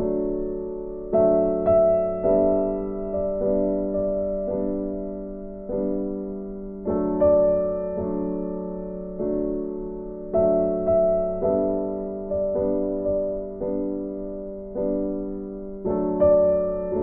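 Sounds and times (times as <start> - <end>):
slow soft piano music: 0.0 - 17.0.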